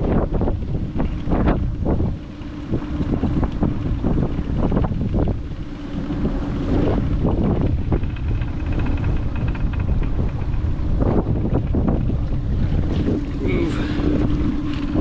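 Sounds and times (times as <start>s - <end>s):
steady low hum: 0.0s - 15.0s
water lapping at hull: 0.0s - 15.0s
wind buffeting microphone: 0.0s - 15.0s.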